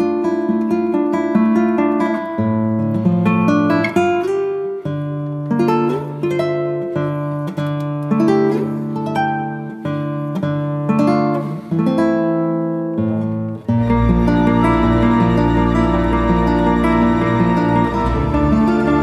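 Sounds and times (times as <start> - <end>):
plucked acoustic guitar music: 0.0 - 19.0.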